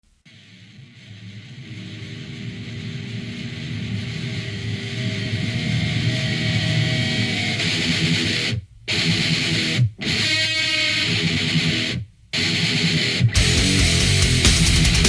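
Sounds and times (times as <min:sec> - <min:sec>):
rock music with electric guitar: 0:00.3 - 0:15.0.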